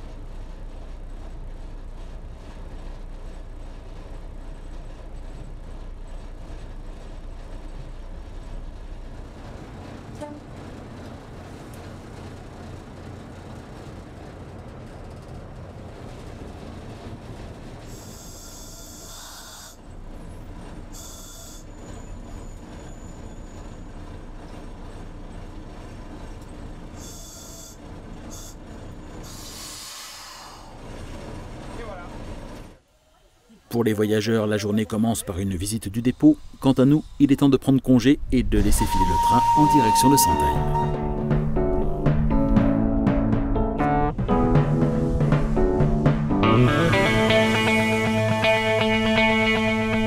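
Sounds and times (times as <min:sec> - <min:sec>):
railcar engine and wheels rumbling: 0:00.0 - 0:50.0.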